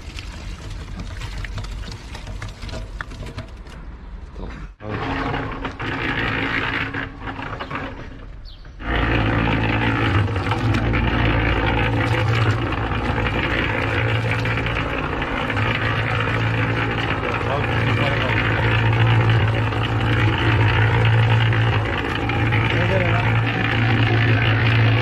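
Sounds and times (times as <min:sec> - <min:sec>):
concrete mixer motor hum: 0:00.0 - 0:03.8, 0:04.8 - 0:25.0
tumbling rattling in mixer drum: 0:00.0 - 0:03.8, 0:04.8 - 0:08.2, 0:08.8 - 0:25.0.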